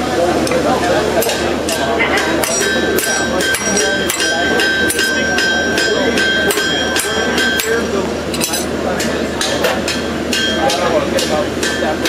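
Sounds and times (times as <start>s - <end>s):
anvil ringing: 1.2s - 12.0s
hammer striking on anvil: 1.2s - 12.0s.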